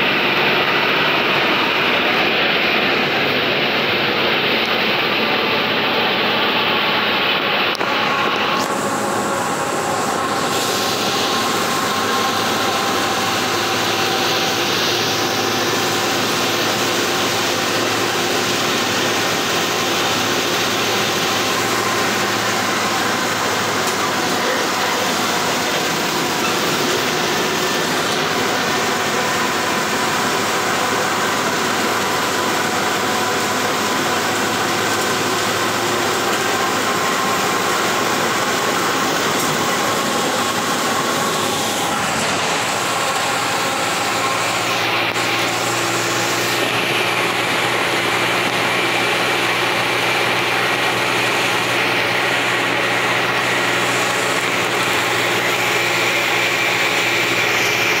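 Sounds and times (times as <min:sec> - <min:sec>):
bus engine drone: 0:00.0 - 0:58.0
tyres hissing on wet road: 0:00.0 - 0:58.0.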